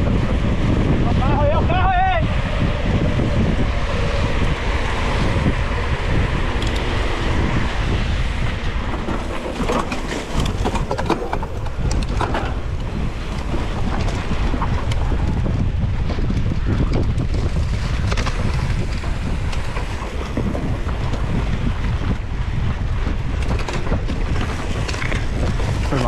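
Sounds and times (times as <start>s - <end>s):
wind buffeting microphone: 0.0s - 26.0s
bike clicks and rattles: 3.9s - 7.7s, 8.4s - 26.0s.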